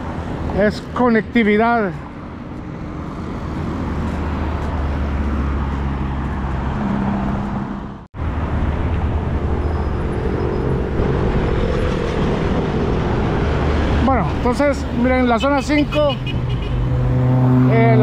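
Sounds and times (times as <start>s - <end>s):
highway traffic passing: 0.0s - 18.0s.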